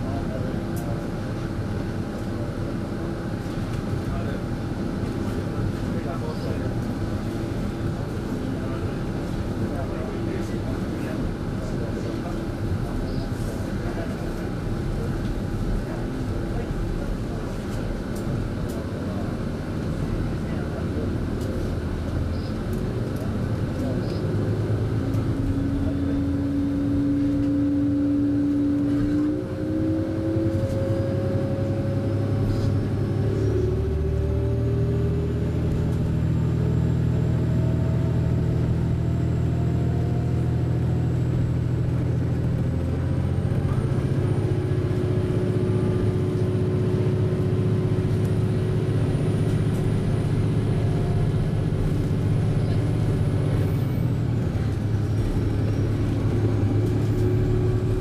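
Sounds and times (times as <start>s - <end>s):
diesel railcar engine hum: 0.0s - 58.0s.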